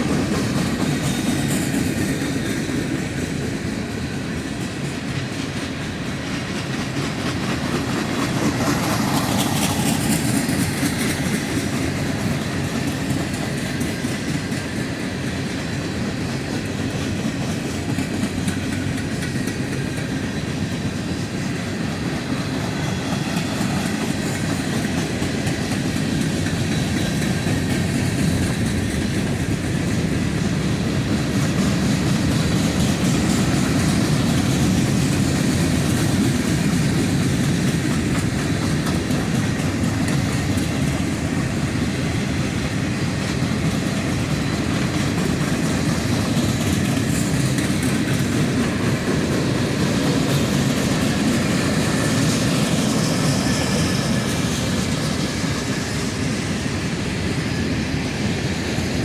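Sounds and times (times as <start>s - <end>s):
train wheels clicking over rails: 0.0s - 59.0s.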